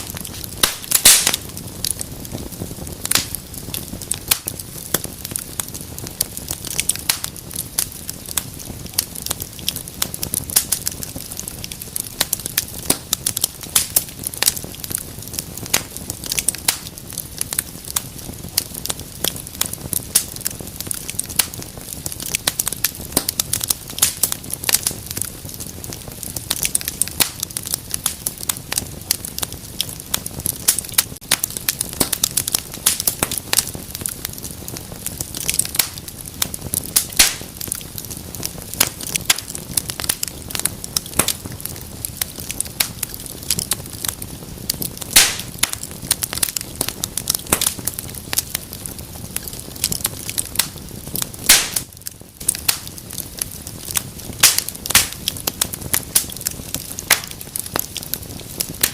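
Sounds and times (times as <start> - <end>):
fire crackling and popping: 0.0 - 58.9
low fire rumble: 0.0 - 58.9.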